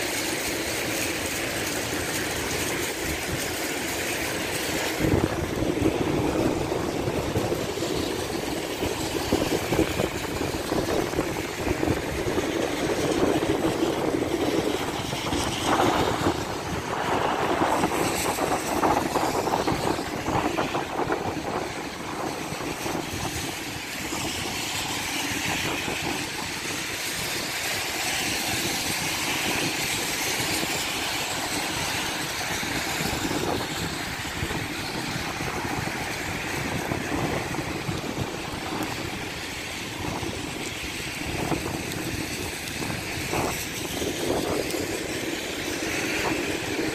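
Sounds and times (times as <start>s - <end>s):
cars passing on wet road: 0.0s - 46.9s
steady rushing noise: 0.0s - 46.9s.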